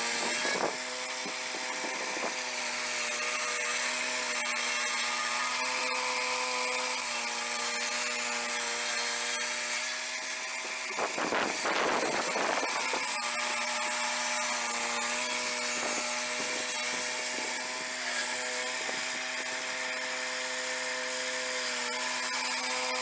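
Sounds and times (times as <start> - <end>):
saw blade spinning: 0.0 - 23.0.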